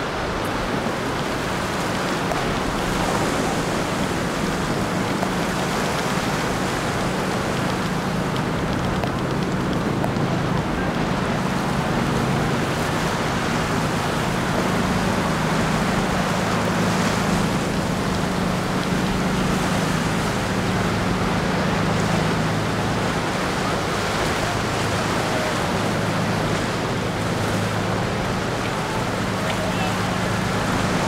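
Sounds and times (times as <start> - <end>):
boat engines droning: 0.0 - 31.0
rough surf: 0.0 - 31.0
wind: 0.0 - 31.0.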